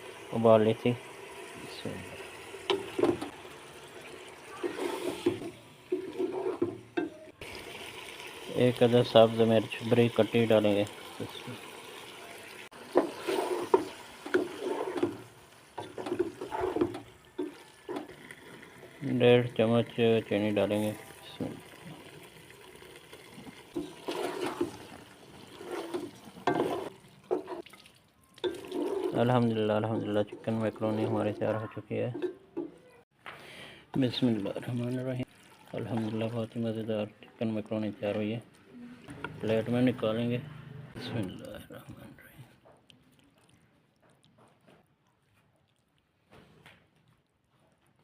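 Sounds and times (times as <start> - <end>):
food squelching and sloshing: 1.4 - 32.7, 33.9 - 48.0.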